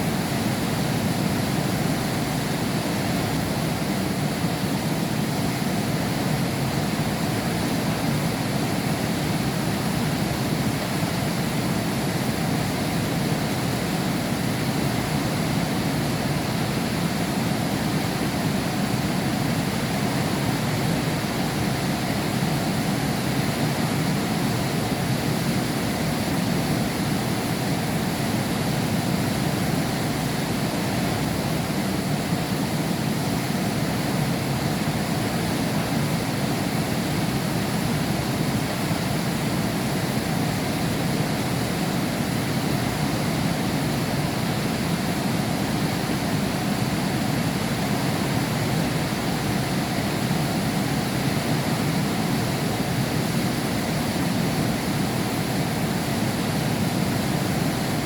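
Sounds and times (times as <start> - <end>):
heavy rain behind a window: 0.0 - 58.0.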